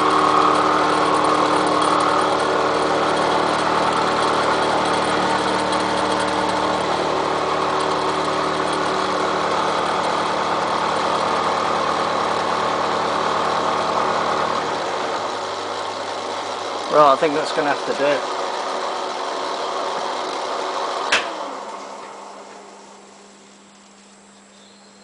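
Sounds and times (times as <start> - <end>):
milling machine cutting steel: 0.0 - 24.4.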